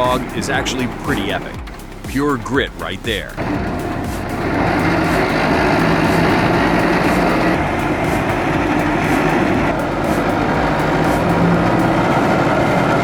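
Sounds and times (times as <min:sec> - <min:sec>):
heavy machinery engine running: 0:00.0 - 0:13.0.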